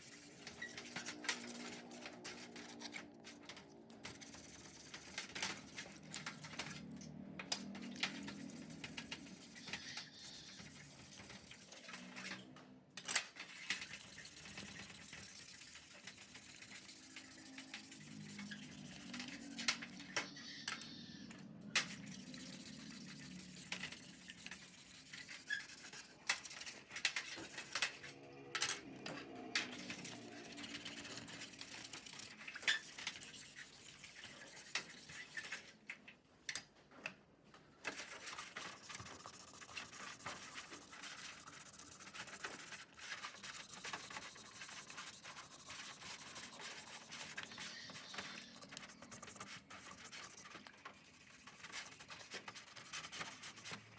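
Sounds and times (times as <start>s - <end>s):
brush scrubbing metal parts: 0.0s - 12.4s, 13.3s - 21.0s, 21.7s - 28.1s, 29.2s - 35.8s, 37.9s - 53.9s.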